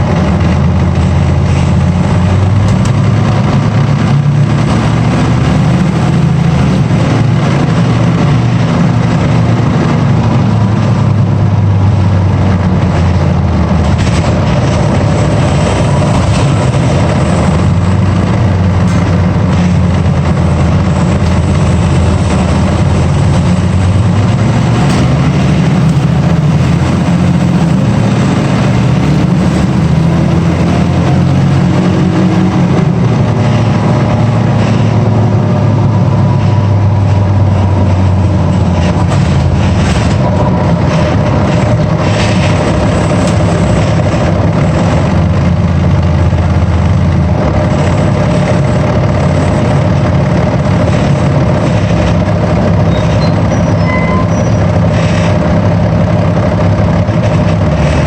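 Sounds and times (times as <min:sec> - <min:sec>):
heavy vehicle engine running: 0:00.0 - 0:58.0.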